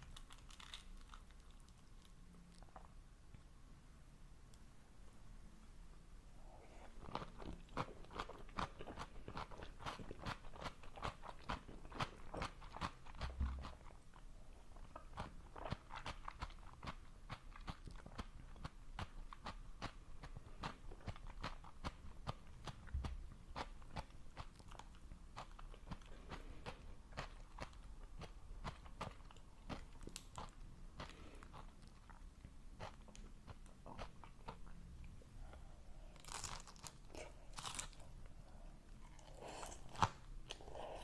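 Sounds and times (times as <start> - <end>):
crunchy chewing of food: 6.6 - 41.0.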